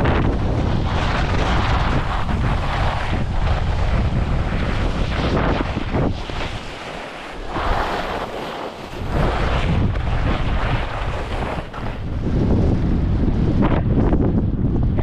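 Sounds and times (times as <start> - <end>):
skis sliding on snow: 0.0 - 12.8
wind buffeting microphone: 0.0 - 15.0.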